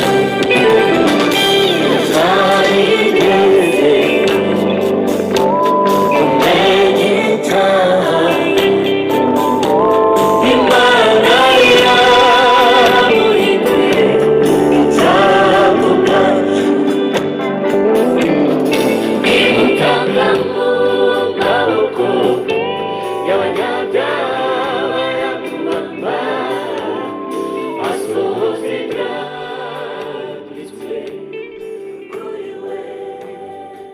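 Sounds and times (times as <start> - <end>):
instrumental accompaniment: 0.0 - 32.9
gospel choir singing: 0.0 - 33.9.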